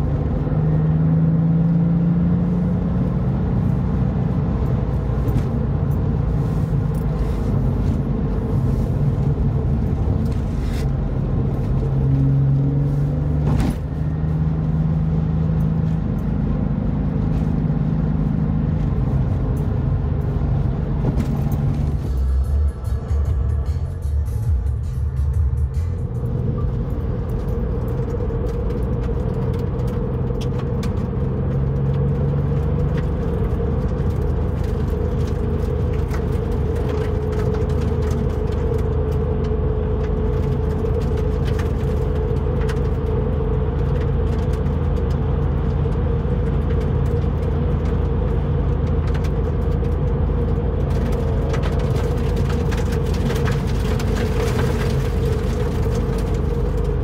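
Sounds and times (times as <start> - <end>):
car engine running: 0.0 - 57.0
road and tyre noise: 0.0 - 57.0.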